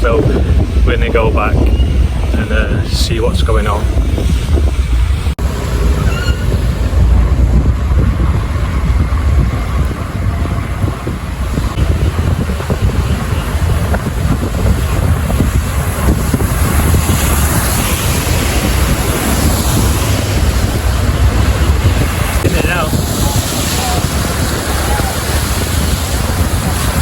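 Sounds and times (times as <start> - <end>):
truck road noise: 0.0 - 27.0
wind buffeting microphone: 0.0 - 27.0.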